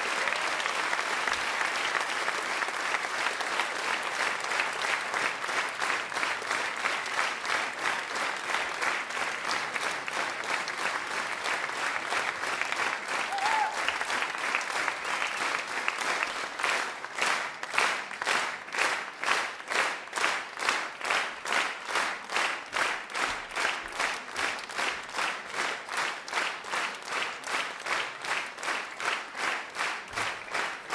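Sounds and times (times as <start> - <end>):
audience clapping in unison: 0.0 - 30.9.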